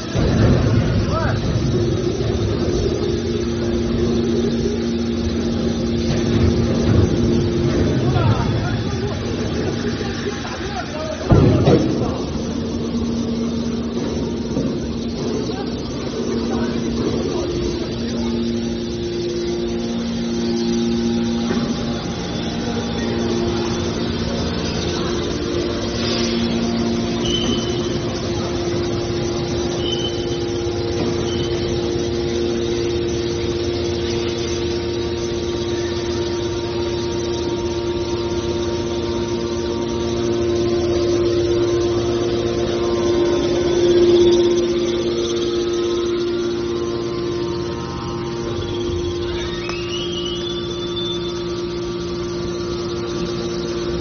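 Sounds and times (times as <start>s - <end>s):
hydraulic pump and motor hum: 0.0s - 54.0s.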